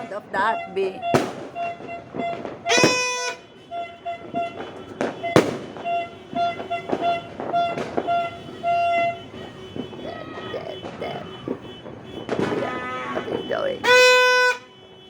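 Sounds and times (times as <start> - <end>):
fireworks and firecrackers banging: 0.0 - 15.0
horn tooting: 0.0 - 15.0.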